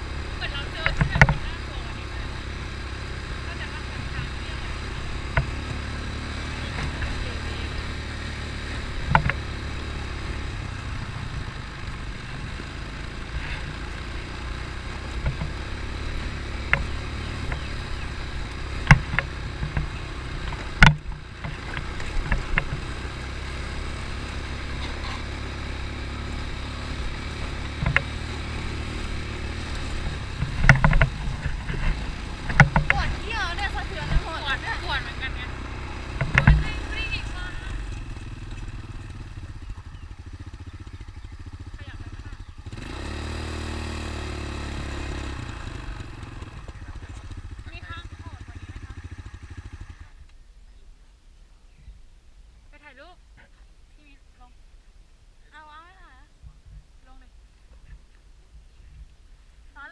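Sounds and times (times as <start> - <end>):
knocks and rattles over rough ground: 0.0 - 50.0
quad bike engine: 0.0 - 50.4, 55.4 - 59.9.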